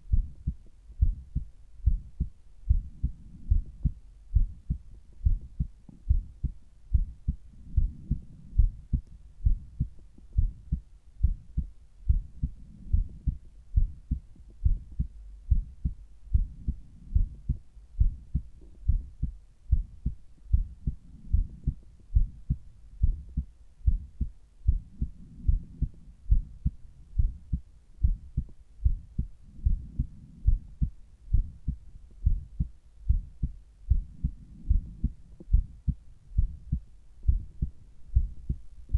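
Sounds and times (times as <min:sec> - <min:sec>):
heartbeat through stethoscope: 0:00.0 - 0:38.9
soft low rushing: 0:00.0 - 0:38.9.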